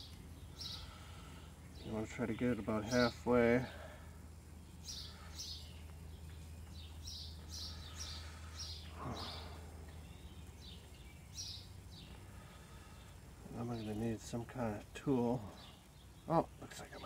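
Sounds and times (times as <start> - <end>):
low steady hum: 0.0 - 17.0
small bird chirping: 0.0 - 17.0.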